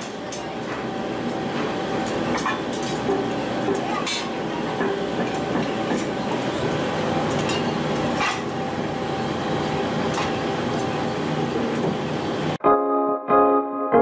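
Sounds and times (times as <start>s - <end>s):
heavy machinery drone: 0.0s - 12.6s.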